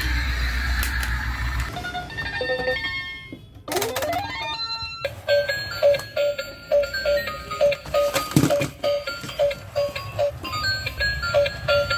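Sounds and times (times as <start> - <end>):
toy keyboard tune: 0.0 - 11.9.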